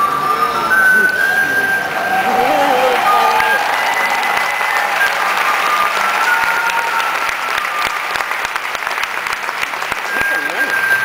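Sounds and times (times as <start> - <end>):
faint music: 0.0 - 11.0
audience applauding: 0.4 - 11.0.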